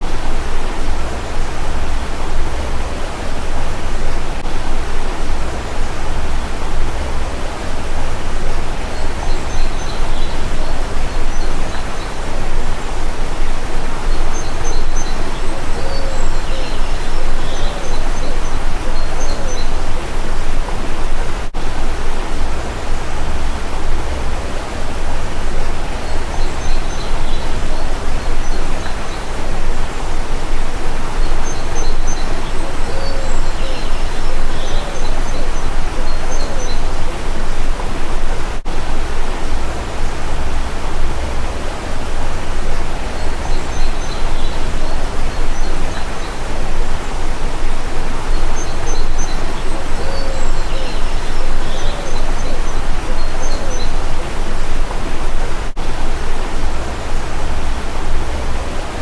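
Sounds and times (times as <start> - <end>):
stream running water: 0.0 - 59.0.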